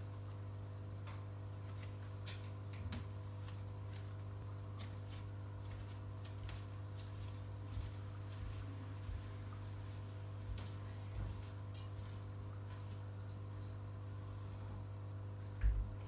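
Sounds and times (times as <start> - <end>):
aquarium air pump humming: 0.0 - 16.0.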